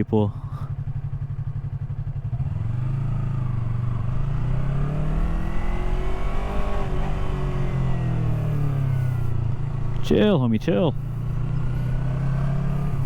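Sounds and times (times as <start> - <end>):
motorcycle engine revving up: 1.5 - 10.3, 10.9 - 13.0.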